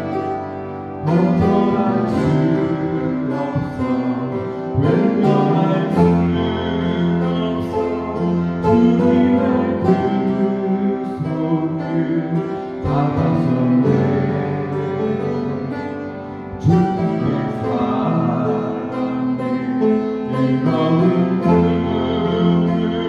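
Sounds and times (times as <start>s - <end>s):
upright piano playing: 0.0s - 23.0s
man singing: 1.0s - 23.0s.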